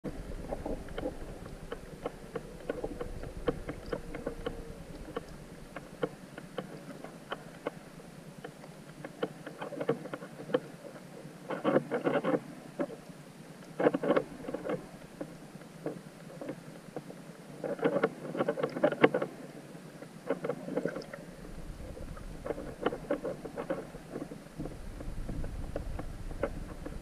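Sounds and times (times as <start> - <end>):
faint steady hum: 0.0 - 27.0
sharp underwater clicks: 0.2 - 19.3, 20.3 - 27.0.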